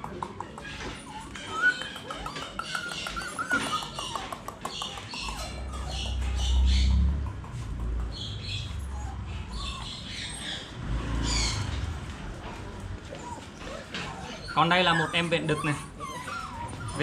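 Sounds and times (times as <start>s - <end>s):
puppies squeaking and whining: 0.1s - 17.0s.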